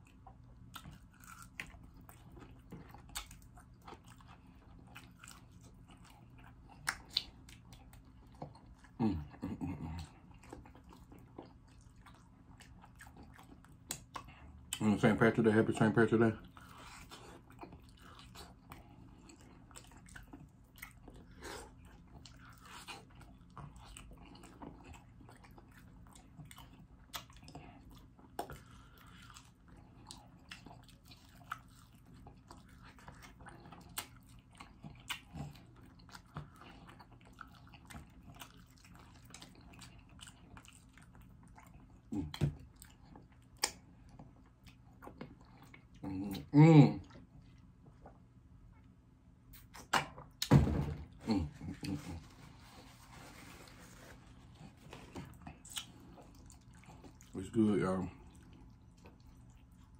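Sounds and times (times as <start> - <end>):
chewing crispy fried chicken: 0.0 - 50.5, 51.2 - 59.9.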